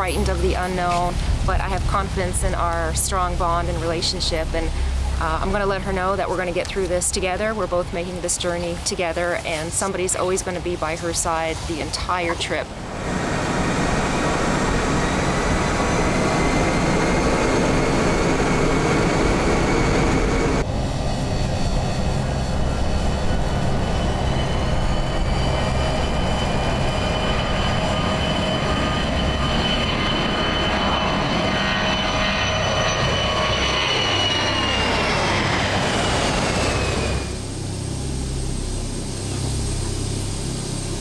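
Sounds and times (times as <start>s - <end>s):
jet engines roaring with whine: 0.0s - 41.0s.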